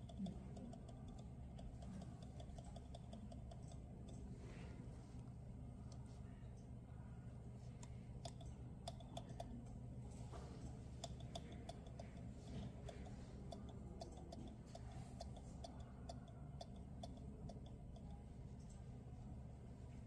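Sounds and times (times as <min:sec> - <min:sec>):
refrigerator humming: 0:00.0 - 0:20.0.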